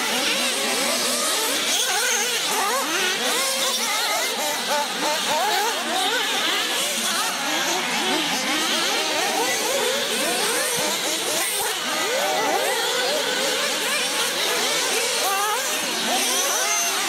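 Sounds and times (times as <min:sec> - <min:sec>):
small high-revving engines: 0:00.0 - 0:17.0.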